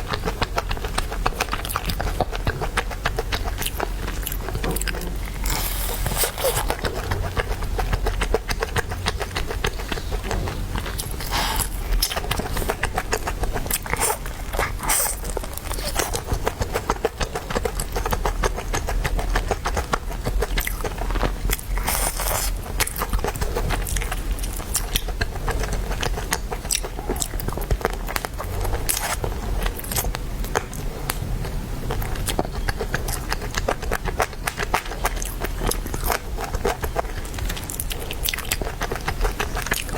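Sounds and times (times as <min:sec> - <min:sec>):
steady low hum: 0:00.0 - 0:39.9
wet chewing and crunching: 0:00.0 - 0:39.9.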